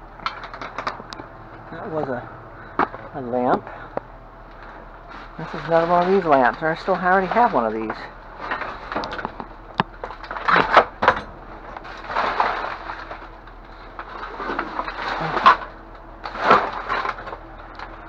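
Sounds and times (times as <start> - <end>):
objects knocking and scraping: 0.0 - 1.8, 2.6 - 18.0.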